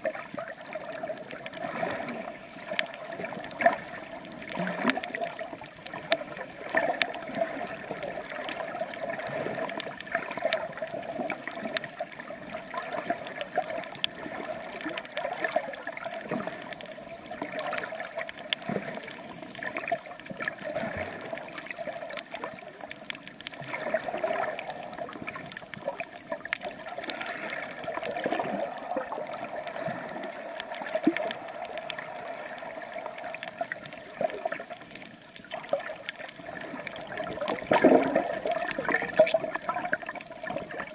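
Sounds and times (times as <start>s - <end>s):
water sloshing and gurgling: 0.0s - 40.9s
small clicks: 1.0s - 20.6s, 21.3s - 40.9s.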